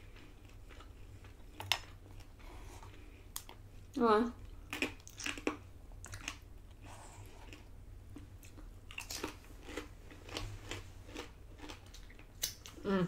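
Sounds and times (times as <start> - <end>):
chewing crispy bacon: 0.0 - 13.0.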